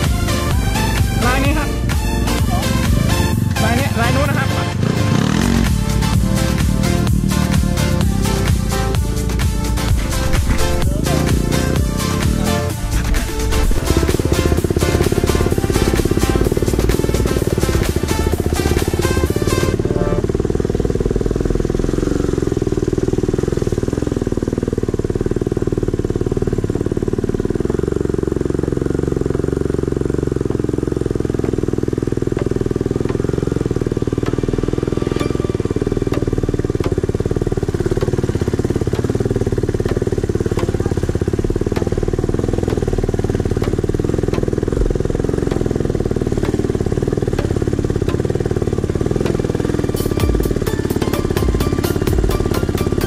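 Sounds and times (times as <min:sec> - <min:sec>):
motorcycle engine running muffled: 0:00.0 - 0:53.0.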